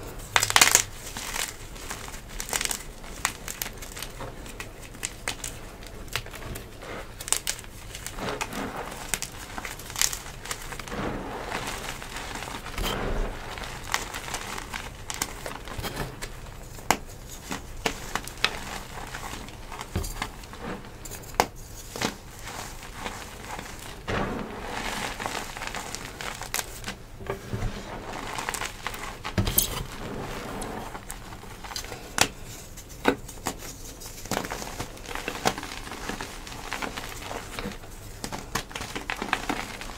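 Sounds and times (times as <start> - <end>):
hands crushing chalk: 0.0 - 27.0, 27.7 - 39.9.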